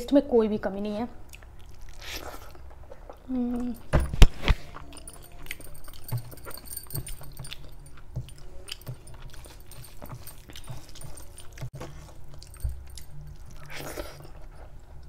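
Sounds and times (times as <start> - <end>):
close-up chewing: 1.2 - 15.0.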